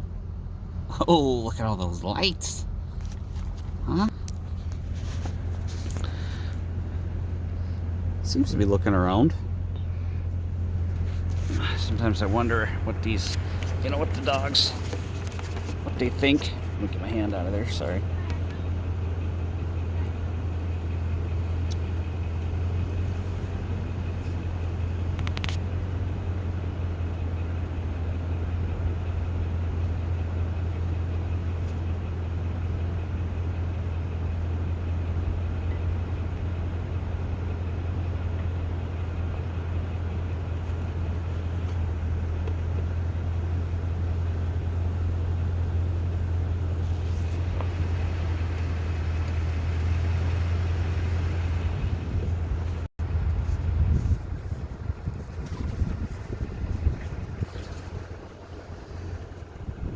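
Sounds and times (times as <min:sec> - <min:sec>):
car engine and tyres drone: 0:00.0 - 0:59.9.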